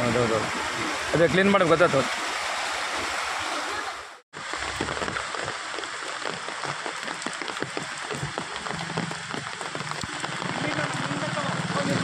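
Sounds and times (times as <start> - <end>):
heavy rain on flooded road: 0.0 - 12.0
water rushing through drain: 0.0 - 12.0.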